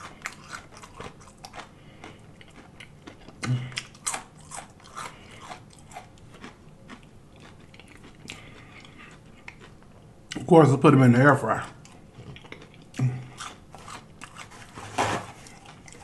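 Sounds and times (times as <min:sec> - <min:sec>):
crunchy chewing: 0:00.0 - 0:10.5, 0:11.5 - 0:16.0.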